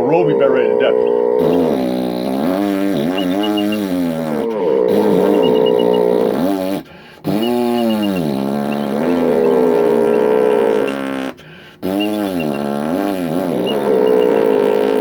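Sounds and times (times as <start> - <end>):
dog snoring loudly: 0.0 - 15.0
faint high squeaks: 0.9 - 15.0.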